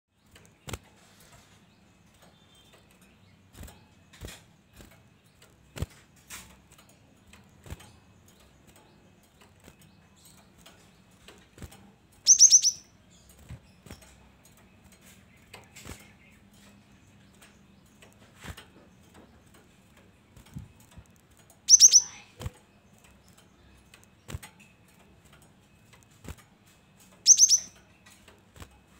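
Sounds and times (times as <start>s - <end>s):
bird chirping: 0.1s - 28.9s.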